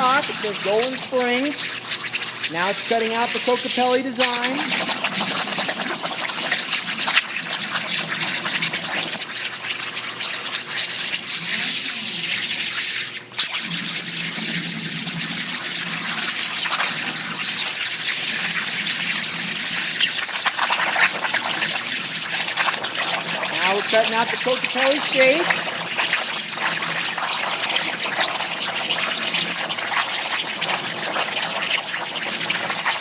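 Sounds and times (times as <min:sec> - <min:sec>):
plasma cutter hissing under water: 0:00.0 - 0:33.0.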